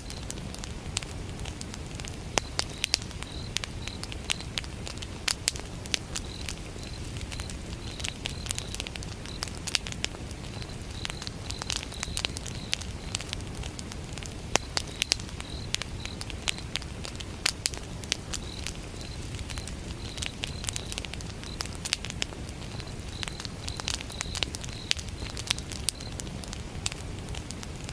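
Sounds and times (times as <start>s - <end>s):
crickets chirping: 0.0s - 0.7s, 2.3s - 4.6s, 5.5s - 13.7s, 14.5s - 17.0s, 17.6s - 26.6s
campfire crackling and popping: 0.0s - 27.9s
low steady fire rumble: 0.0s - 27.9s.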